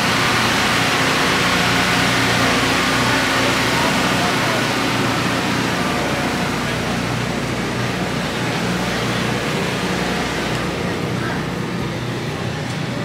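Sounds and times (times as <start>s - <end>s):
generator humming: 0.0s - 13.0s.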